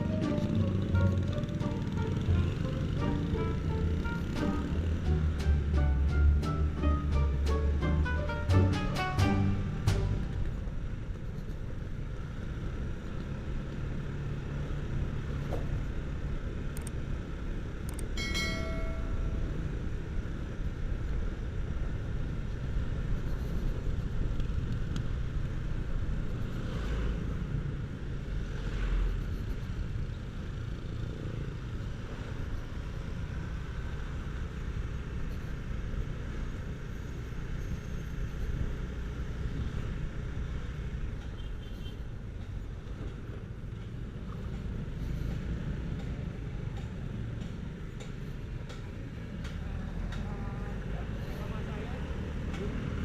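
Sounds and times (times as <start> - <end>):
motorcycle engine and road noise: 0.0 - 53.0.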